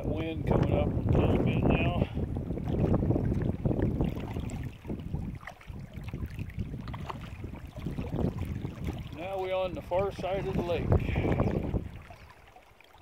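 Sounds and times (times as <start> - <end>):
wind gusting over microphone: 0.0 - 12.3
waves lapping against plastic hull: 0.0 - 13.0.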